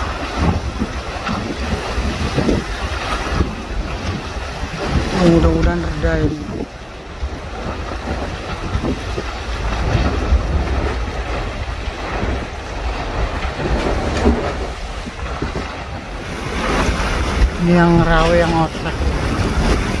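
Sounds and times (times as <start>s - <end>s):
boat engine low rumble: 0.0s - 20.0s
water splashing around hull: 0.0s - 20.0s
wind buffeting microphone: 0.0s - 20.0s.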